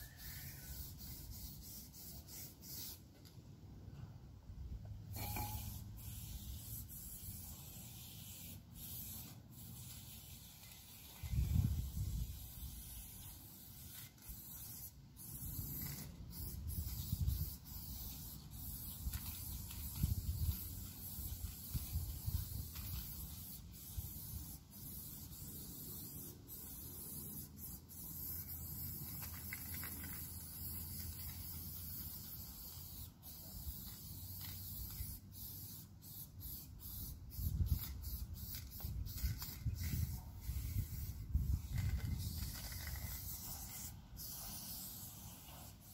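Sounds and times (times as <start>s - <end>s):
spray paint can hissing: 0.0s - 3.4s, 5.1s - 45.9s.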